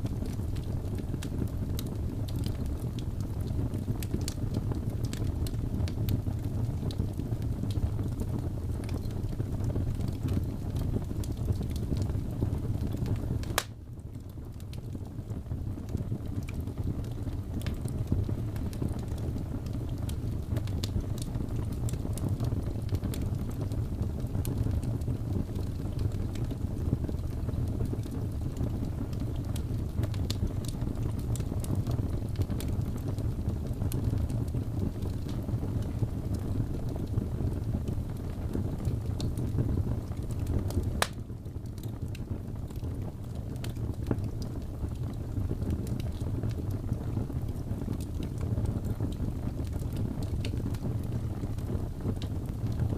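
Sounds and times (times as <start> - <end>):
log fire crackling: 0.0 - 52.9
loud fire crack: 0.0 - 52.9.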